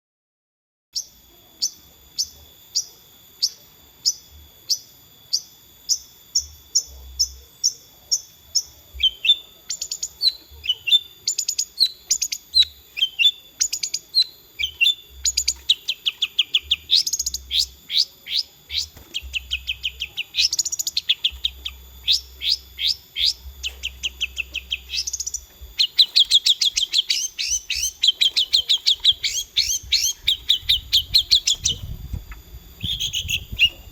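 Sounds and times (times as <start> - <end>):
shrike singing: 1.0 - 33.9.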